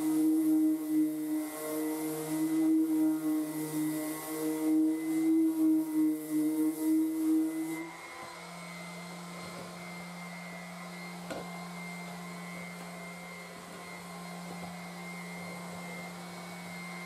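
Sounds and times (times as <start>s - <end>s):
orbital sander motor hum: 0.0s - 17.0s.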